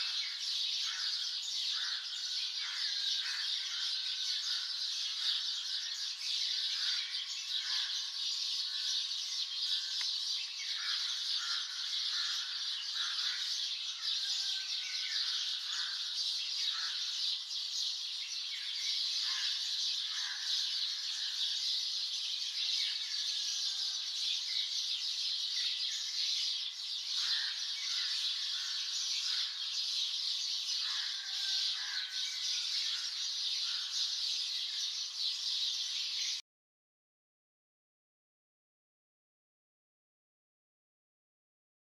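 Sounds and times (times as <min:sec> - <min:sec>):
birds twittering: 0:00.0 - 0:36.4.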